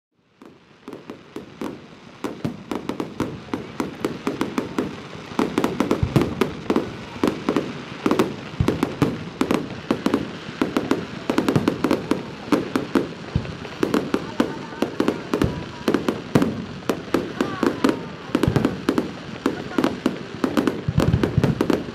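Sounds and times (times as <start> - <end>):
fireworks cracks and bangs: 0.2 - 21.9
deep fireworks booms: 0.4 - 21.9.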